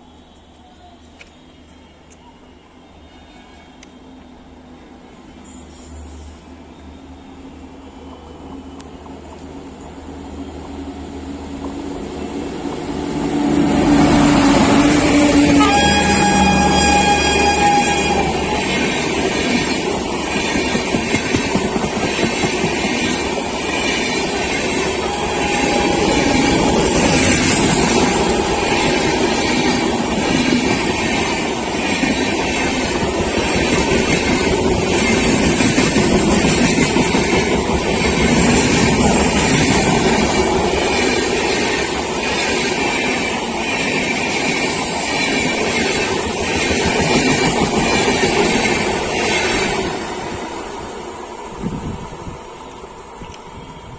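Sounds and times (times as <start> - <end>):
train rushing past: 1.4 - 53.9.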